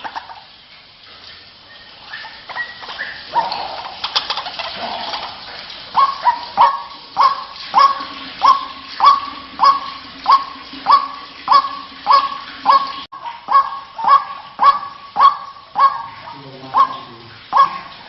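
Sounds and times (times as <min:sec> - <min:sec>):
waterhen croaking calls: 0:00.0 - 0:00.6, 0:01.4 - 0:18.0.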